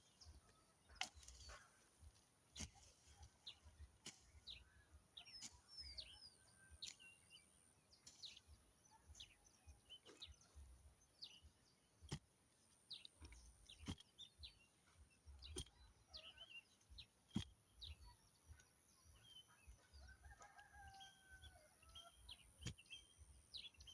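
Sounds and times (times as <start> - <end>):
faint small birds chirping: 0.0 - 23.9.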